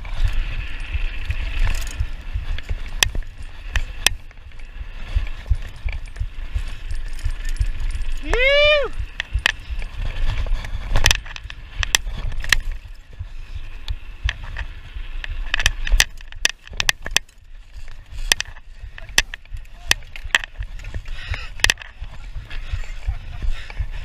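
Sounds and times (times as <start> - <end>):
bike knocking and clattering: 0.0 - 24.0
wind rumble on microphone: 0.0 - 24.0.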